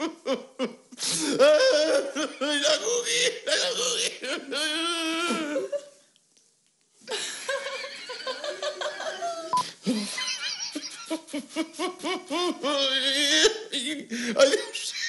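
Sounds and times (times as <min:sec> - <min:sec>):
man laughing: 0:00.0 - 0:05.9, 0:07.1 - 0:15.0.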